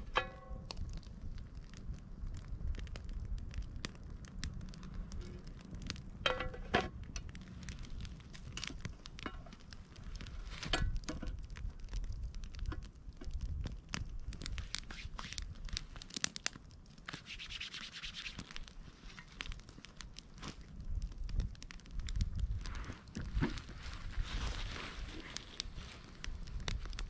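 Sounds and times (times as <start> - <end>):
crackles and rustling: 0.0 - 27.0.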